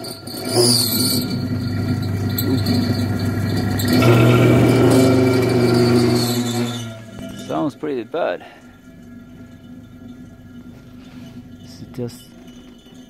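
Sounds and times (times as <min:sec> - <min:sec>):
rough whirring mechanical noise: 0:00.0 - 0:13.0
fan deep hum: 0:00.8 - 0:13.0.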